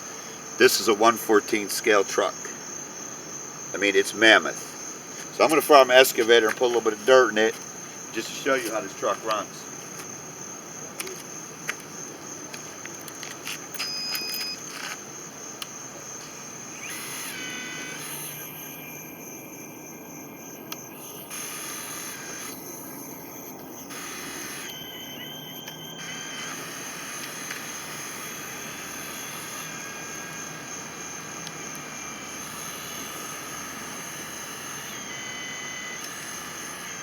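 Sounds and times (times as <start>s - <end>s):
hydraulic pump whining: 3.8s - 37.0s.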